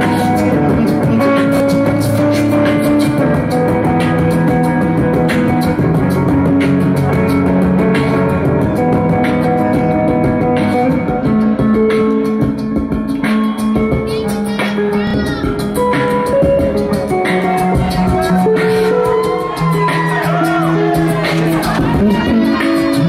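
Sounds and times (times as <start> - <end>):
electric guitar strumming: 0.0 - 23.0.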